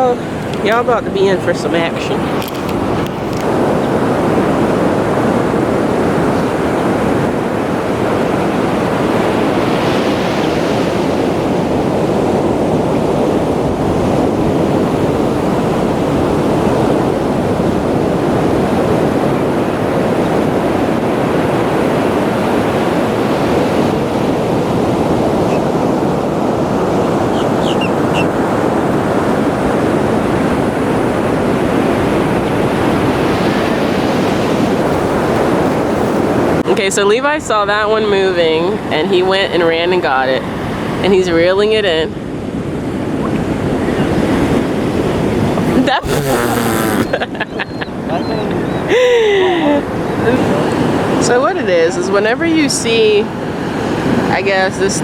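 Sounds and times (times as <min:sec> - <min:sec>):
ocean surf washing onto beach: 0:00.0 - 0:55.0
wind on microphone: 0:00.0 - 0:55.0.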